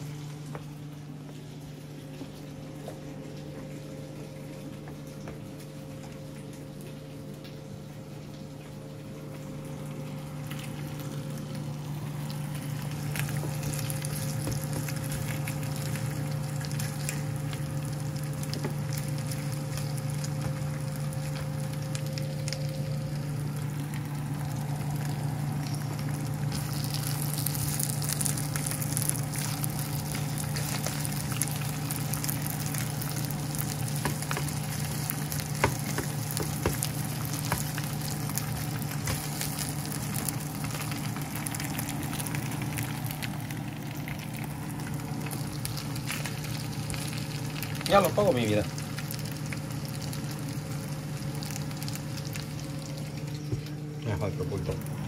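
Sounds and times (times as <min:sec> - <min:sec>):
chicken frying in oil: 0:00.0 - 0:55.0.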